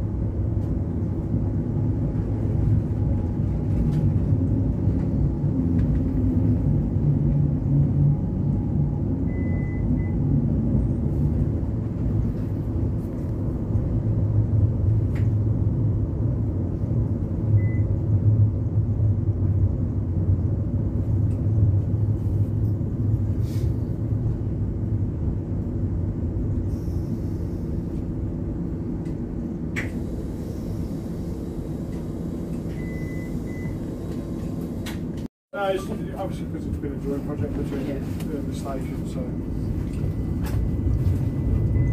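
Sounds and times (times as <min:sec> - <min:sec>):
tram low rumble: 0:00.0 - 0:41.9.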